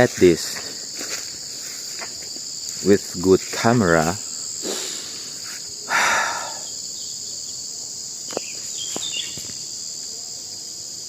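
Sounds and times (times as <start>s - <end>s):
forest insects chorus: 0.0s - 11.0s.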